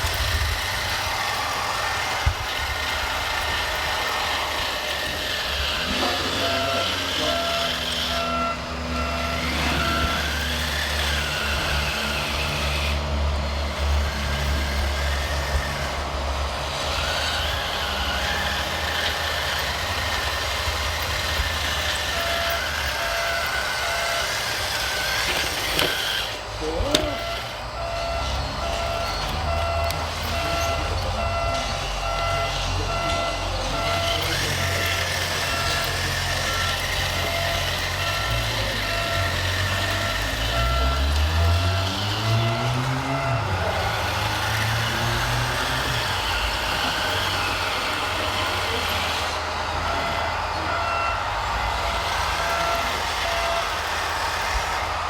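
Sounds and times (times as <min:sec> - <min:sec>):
drive whine: 0:00.0 - 0:55.0
model truck engine rumble: 0:00.0 - 0:55.0
reversing beeper: 0:00.0 - 0:55.0.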